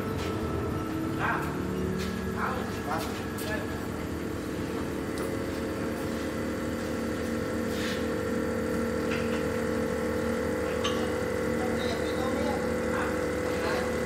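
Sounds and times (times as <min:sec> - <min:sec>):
hydraulic pump humming: 0:00.0 - 0:14.0.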